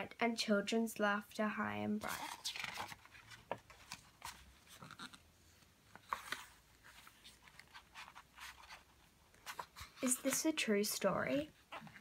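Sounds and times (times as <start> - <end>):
paper pages rustling: 2.0 - 12.0.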